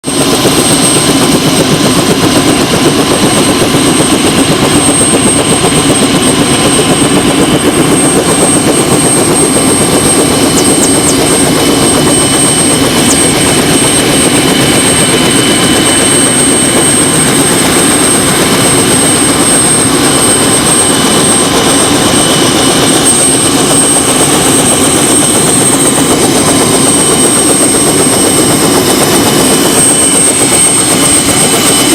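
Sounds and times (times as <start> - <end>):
helicopter engine and rotor noise: 0.0 - 31.9
high-pitched whine: 0.2 - 31.9.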